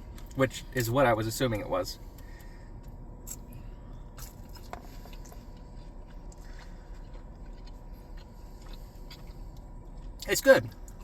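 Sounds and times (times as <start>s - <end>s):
steady low hum: 0.0s - 11.0s
person chewing: 2.1s - 11.0s.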